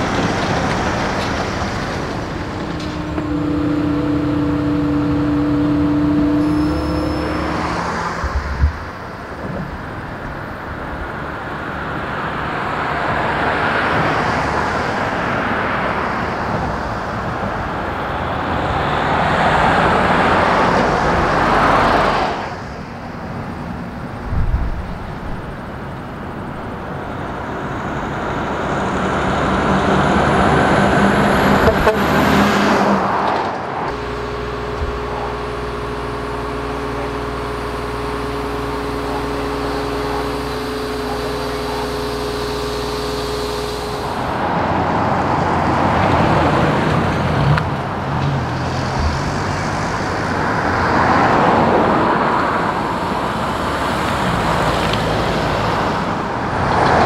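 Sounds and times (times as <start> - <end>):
faint high whine: 0.0 - 33.0, 33.8 - 47.0, 48.5 - 57.0
engine running steadily: 0.0 - 57.0
heavy truck passing: 0.0 - 57.0
road traffic passing: 0.0 - 57.0.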